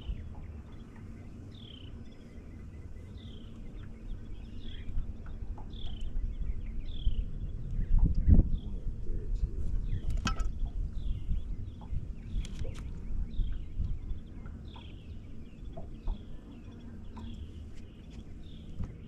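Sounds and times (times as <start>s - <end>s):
bird chirping: 0.0s - 8.8s, 9.8s - 19.0s
steady low rumble: 0.0s - 19.0s.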